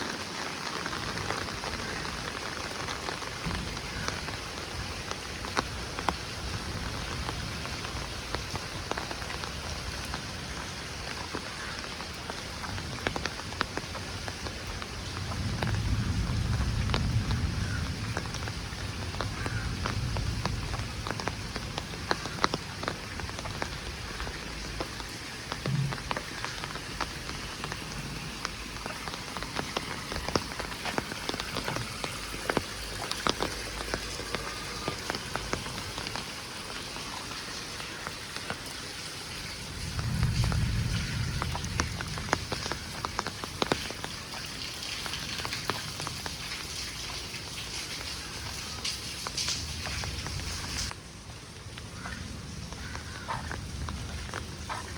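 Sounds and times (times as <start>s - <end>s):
heavy rain hissing: 0.0s - 54.9s
raindrops tapping nearby: 0.0s - 54.9s.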